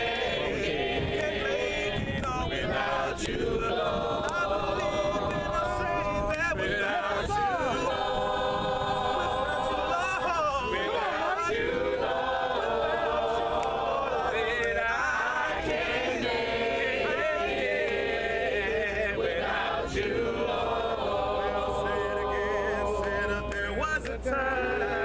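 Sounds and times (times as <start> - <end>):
congregation singing in harmony: 0.0 - 25.0.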